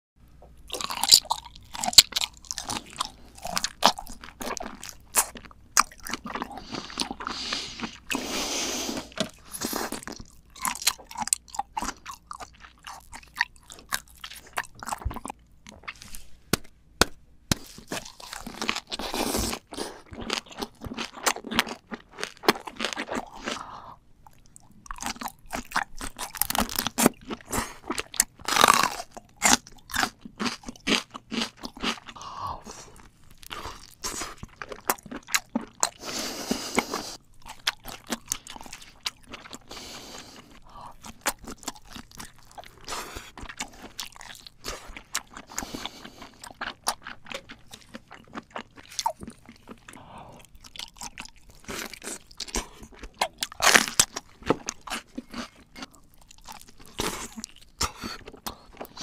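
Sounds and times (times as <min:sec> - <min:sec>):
biting and chewing shrimp: 0:00.6 - 0:59.0.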